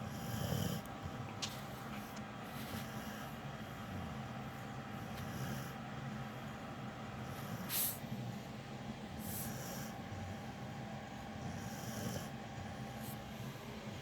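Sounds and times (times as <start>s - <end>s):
dog snoring: 0.0s - 1.3s, 2.0s - 6.6s, 7.2s - 8.5s, 9.1s - 13.6s.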